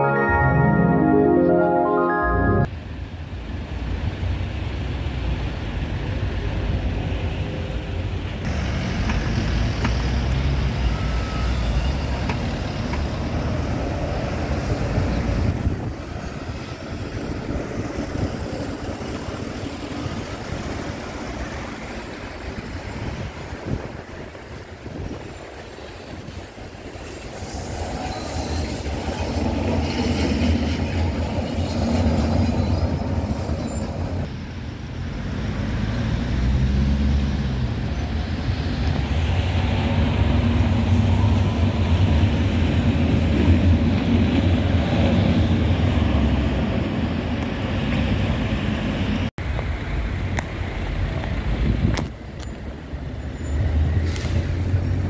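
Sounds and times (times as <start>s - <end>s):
electric trams passing: 0.0s - 36.4s, 37.5s - 55.0s
street traffic: 0.0s - 55.0s.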